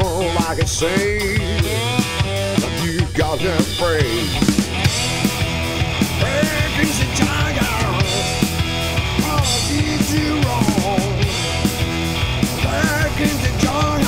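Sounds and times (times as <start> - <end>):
man singing: 0.0 - 4.7, 6.1 - 11.5, 12.6 - 14.0
amplified guitar: 0.0 - 14.0
drum kit with cymbals: 0.0 - 14.0.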